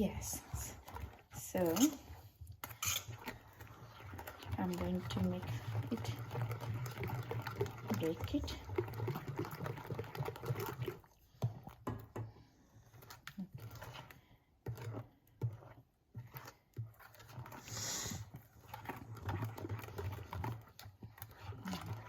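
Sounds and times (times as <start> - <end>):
utensil stirring batter in bowl: 0.0 - 22.0.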